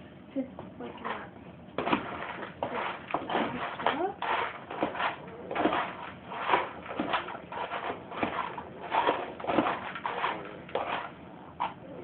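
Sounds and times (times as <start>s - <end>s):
wet dog food stirred in bowl: 0.8s - 12.0s.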